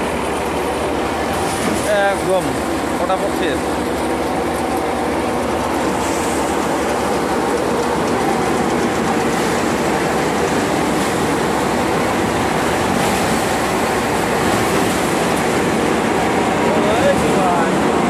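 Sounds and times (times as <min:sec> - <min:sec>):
thresher rattling and humming: 0:00.0 - 0:18.0.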